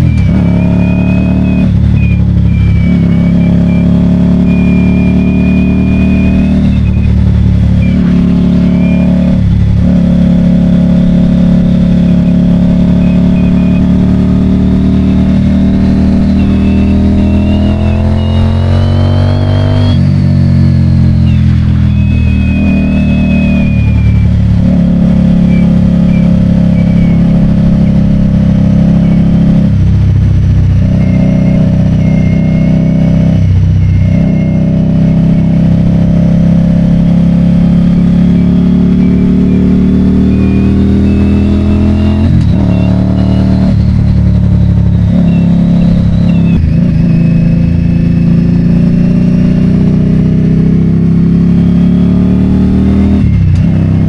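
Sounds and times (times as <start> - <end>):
motorcycle engine under way: 0.0 - 54.0.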